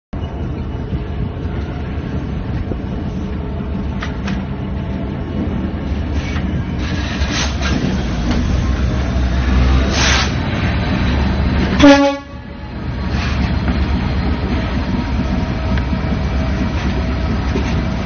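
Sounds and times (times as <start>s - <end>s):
train running gear rumbling: 0.2s - 18.0s.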